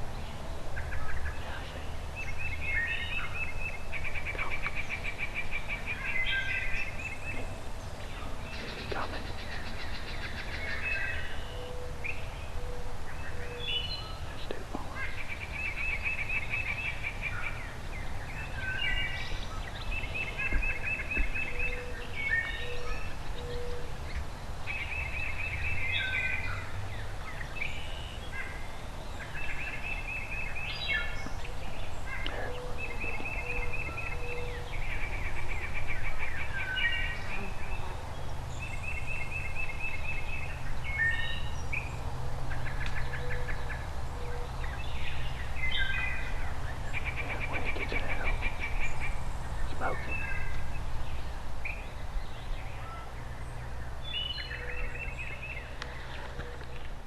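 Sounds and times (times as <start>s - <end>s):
bird chirps: 0.0s - 56.9s.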